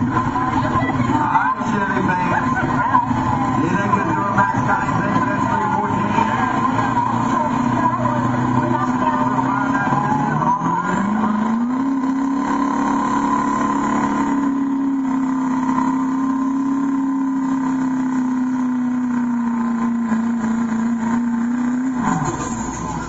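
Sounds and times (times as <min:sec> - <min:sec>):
truck engine at full throttle: 0:00.0 - 0:23.0.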